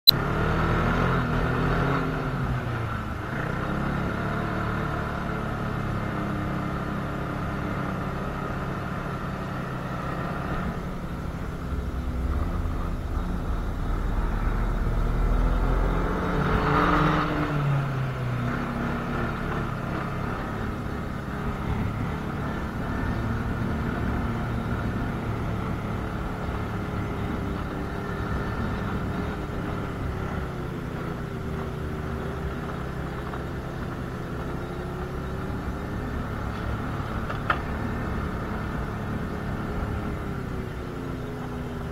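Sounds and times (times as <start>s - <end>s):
snowmobile engine running: 0.2s - 41.9s.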